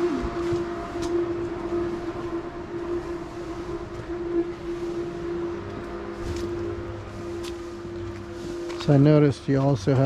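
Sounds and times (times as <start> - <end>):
low rushing noise: 0.0 - 10.0
steady machine hum: 0.0 - 10.0.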